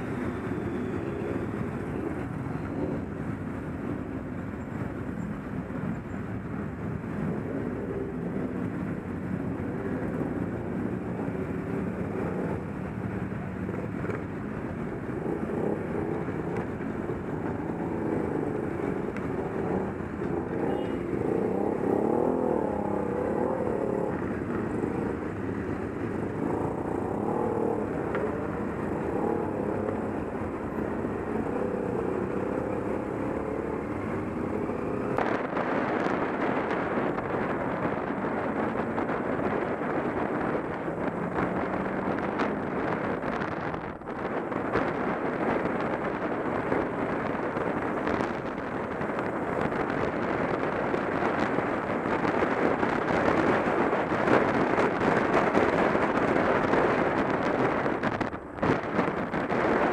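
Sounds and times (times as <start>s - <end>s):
motorcycle engines droning: 0.0s - 59.9s.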